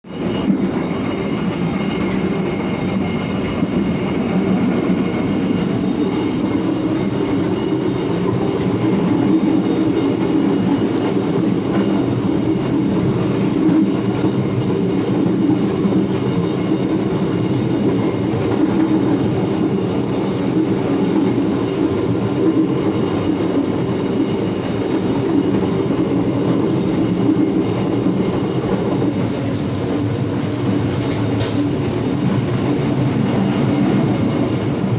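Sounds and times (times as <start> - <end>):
train wheels rumbling: 0.0 - 34.9.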